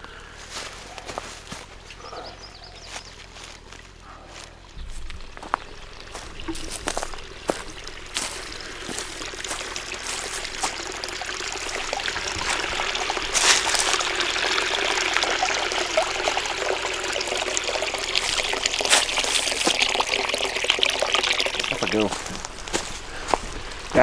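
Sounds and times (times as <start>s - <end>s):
spring water trickling: 0.0s - 3.9s, 4.6s - 24.0s.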